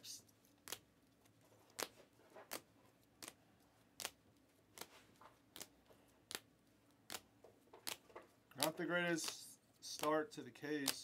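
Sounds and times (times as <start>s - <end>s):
plastic card sleeves slapping: 0.5s - 0.9s, 1.7s - 11.0s.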